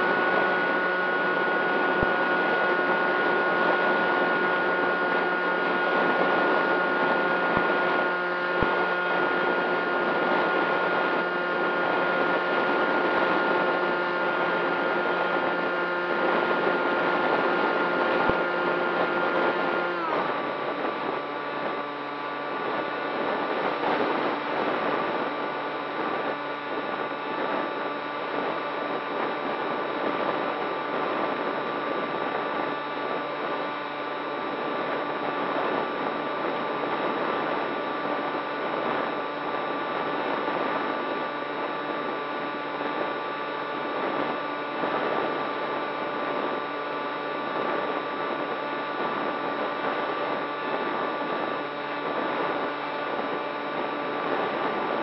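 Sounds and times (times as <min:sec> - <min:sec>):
model plane motor whining: 0:00.0 - 0:55.0
wind noise: 0:00.0 - 0:55.0.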